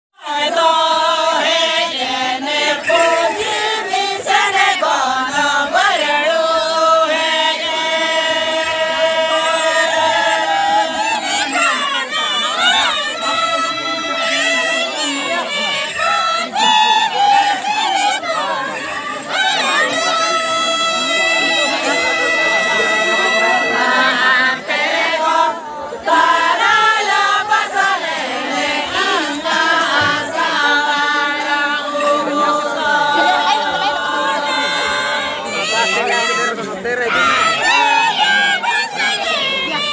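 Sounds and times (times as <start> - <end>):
group singing in chorus: 0.2 - 39.9.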